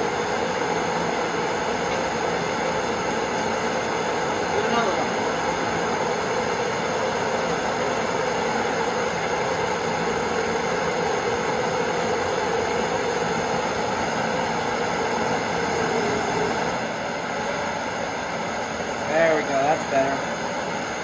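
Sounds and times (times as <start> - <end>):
gas torch flame hissing: 0.0 - 16.9.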